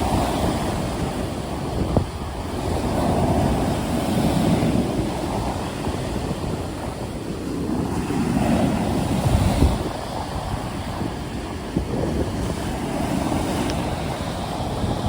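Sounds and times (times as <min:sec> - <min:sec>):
waves surging and breaking: 0:00.0 - 0:15.0
wind buffeting microphone: 0:00.0 - 0:15.0.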